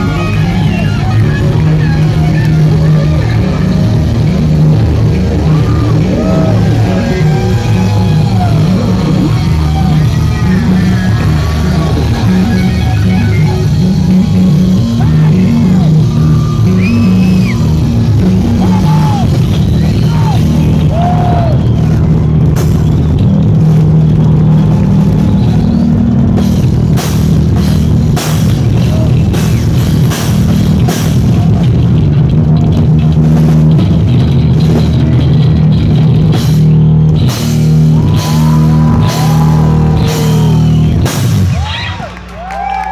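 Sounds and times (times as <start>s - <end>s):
heavy metal band playing live: 0.0s - 42.8s
accented drum and cymbal hits: 1.5s - 41.9s.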